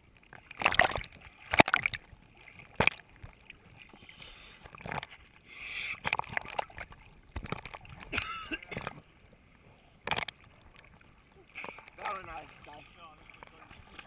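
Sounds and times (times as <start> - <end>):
waves splashing against camera housing: 0.3 - 4.0, 4.6 - 14.0.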